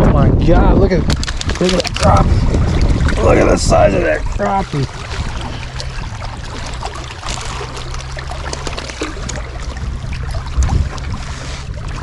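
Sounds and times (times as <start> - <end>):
wind rumbling on microphone: 0.0 - 12.0
small waves lapping: 1.0 - 12.0.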